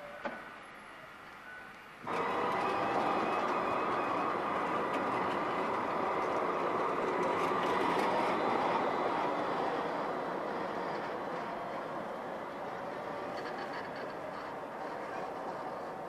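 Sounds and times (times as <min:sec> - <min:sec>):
tram rolling rumble: 0:00.0 - 0:16.0.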